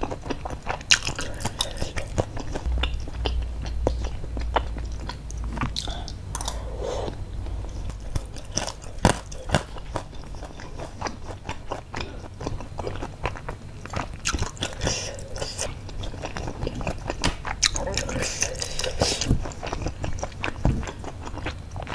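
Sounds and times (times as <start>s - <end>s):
wet chewing and biting: 0.0s - 21.9s.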